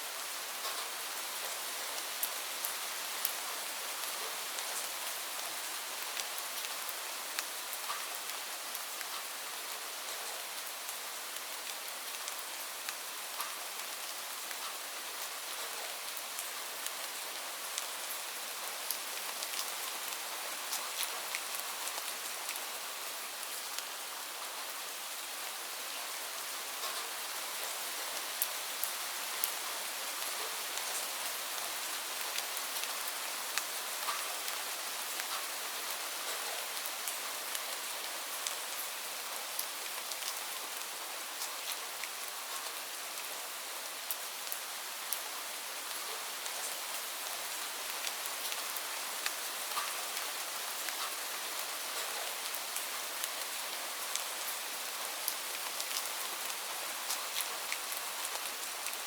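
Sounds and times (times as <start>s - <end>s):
steady rain hiss: 0.0s - 59.0s
raindrops ticking on a surface: 0.5s - 25.5s, 26.7s - 59.0s.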